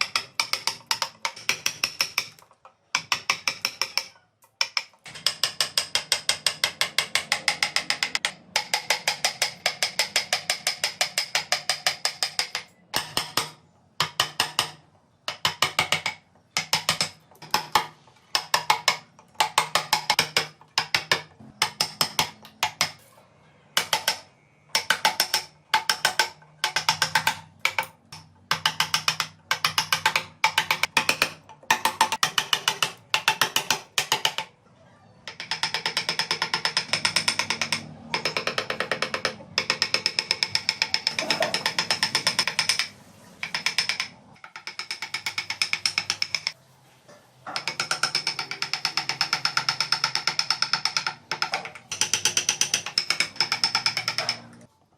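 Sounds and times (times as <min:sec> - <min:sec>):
chisel tapping into wood: 0:00.0 - 0:23.1, 0:23.8 - 0:34.5, 0:35.3 - 0:46.6, 0:47.5 - 0:54.7.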